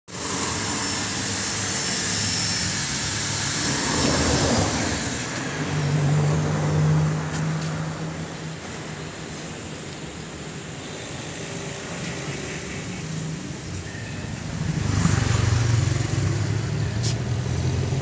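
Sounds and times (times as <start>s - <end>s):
vehicle engines in traffic: 0.1s - 18.0s.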